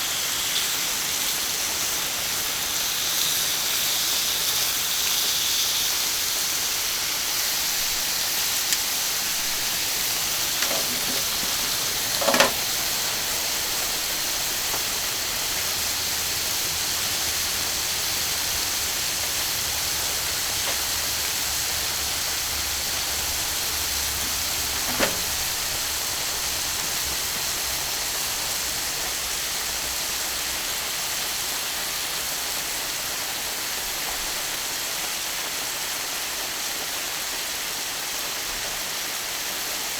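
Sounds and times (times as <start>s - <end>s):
steak sizzling on a griddle: 0.0s - 39.9s.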